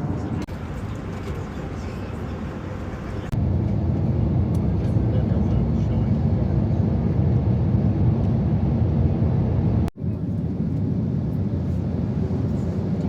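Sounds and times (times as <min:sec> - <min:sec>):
airplane engines rumbling in cabin: 0:00.0 - 0:13.0.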